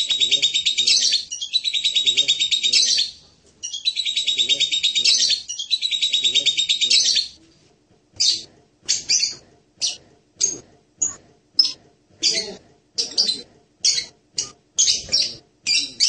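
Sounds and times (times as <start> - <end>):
parrot twittering: 0.0 - 7.4, 8.2 - 16.0.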